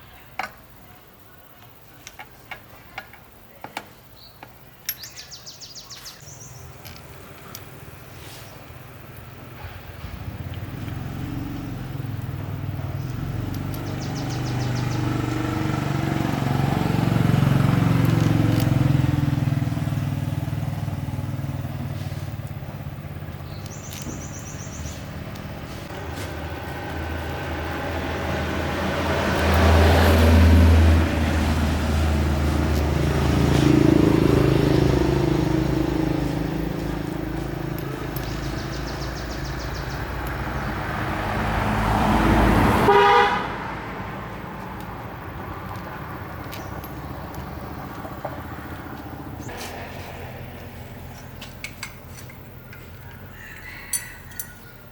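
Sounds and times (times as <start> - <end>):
vehicle engine humming: 6.2 - 54.9.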